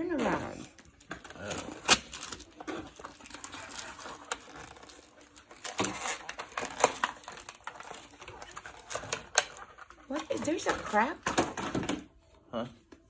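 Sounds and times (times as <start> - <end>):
rustling: 0.2 - 11.0.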